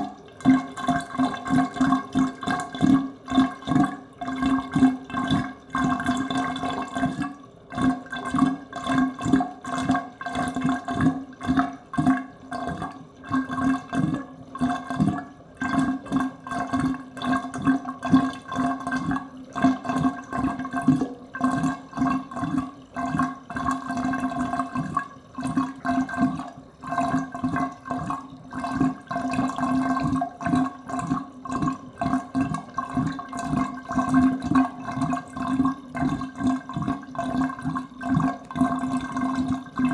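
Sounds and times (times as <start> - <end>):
water gurgling down drain: 0.0 - 39.9.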